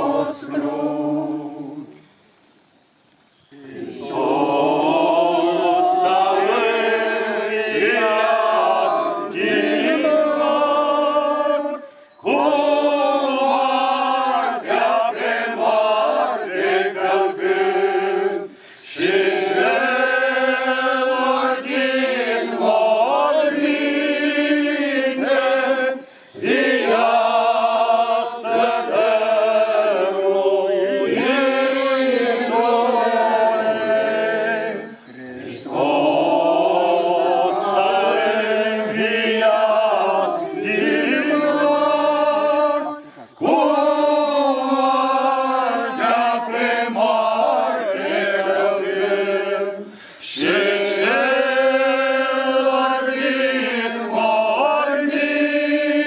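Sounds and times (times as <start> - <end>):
group of voices chanting: 3.6 - 56.0.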